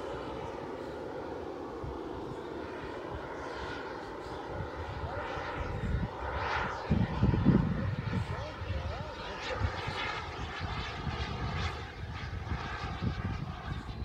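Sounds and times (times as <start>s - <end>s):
model airplane motor drone: 0.0s - 14.0s.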